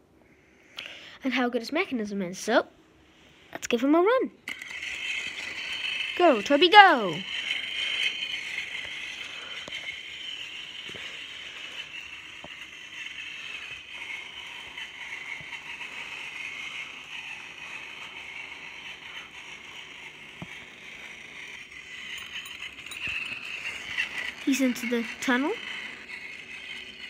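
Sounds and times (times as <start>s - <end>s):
toy train motor whirring: 3.1s - 27.0s.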